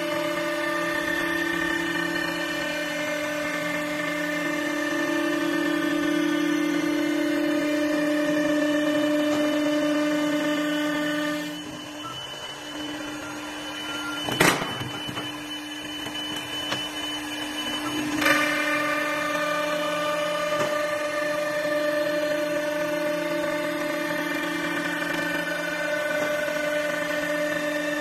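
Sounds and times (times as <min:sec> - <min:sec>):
wood lathe machine hum: 0:00.0 - 0:28.0.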